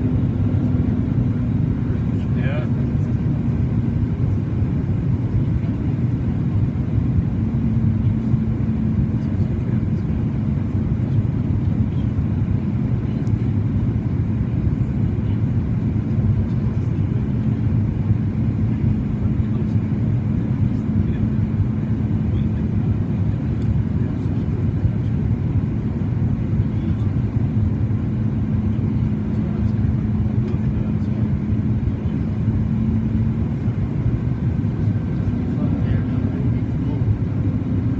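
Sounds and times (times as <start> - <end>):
airliner cabin engine rumble: 0.0 - 37.9
steady cabin hum: 0.0 - 37.9.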